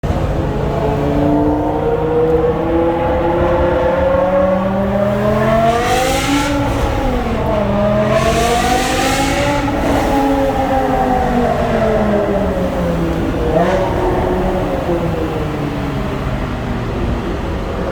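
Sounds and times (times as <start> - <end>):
car engine accelerating in tunnel: 0.0 - 17.9.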